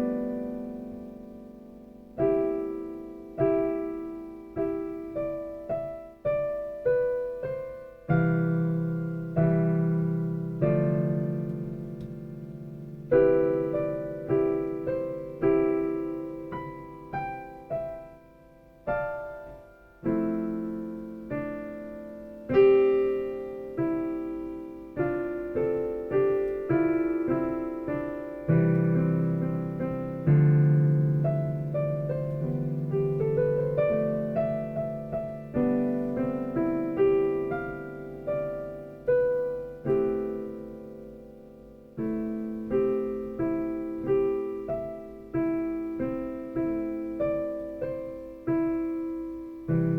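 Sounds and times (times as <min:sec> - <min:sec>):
solo piano music: 0:00.0 - 0:49.9.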